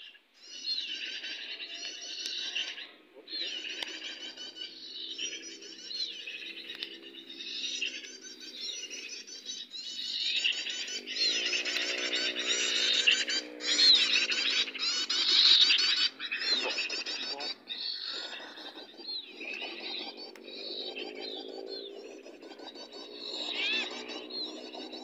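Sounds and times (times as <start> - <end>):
small bird chirping: 0.0 - 25.0.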